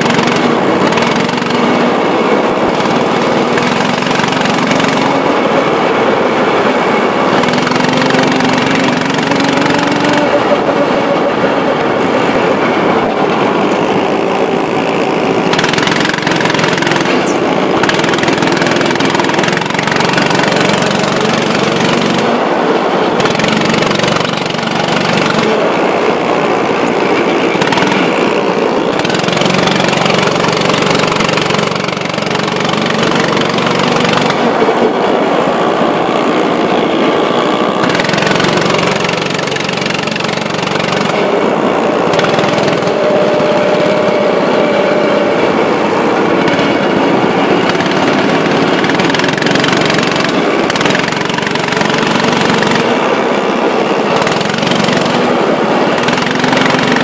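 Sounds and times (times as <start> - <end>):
go-kart engines: 0.0 - 57.0.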